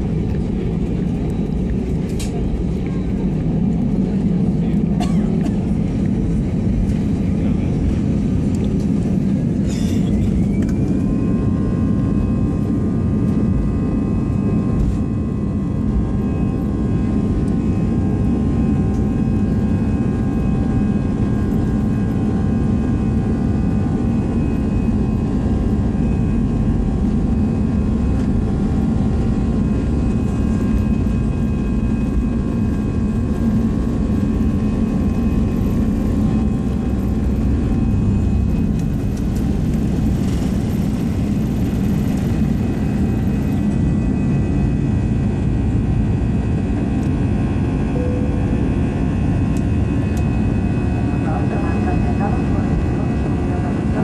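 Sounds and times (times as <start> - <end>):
jet engine whine: 0.0 - 54.0
low rumble of jet cabin: 0.0 - 54.0.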